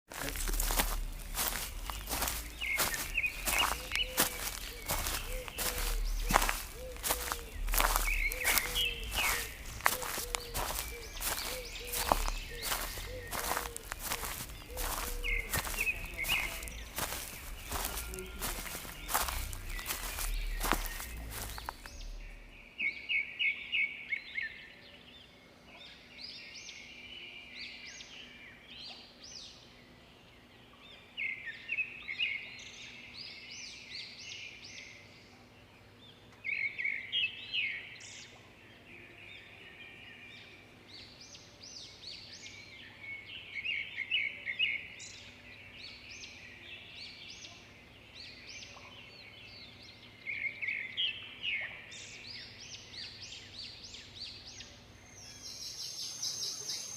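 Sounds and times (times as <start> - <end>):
songbird singing: 0.1 - 56.9.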